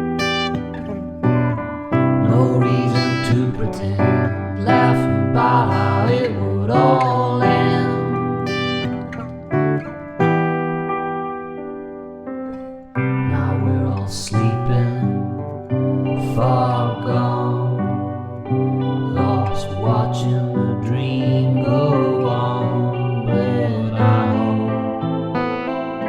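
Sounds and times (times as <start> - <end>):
acoustic guitar folk music: 0.0 - 26.0.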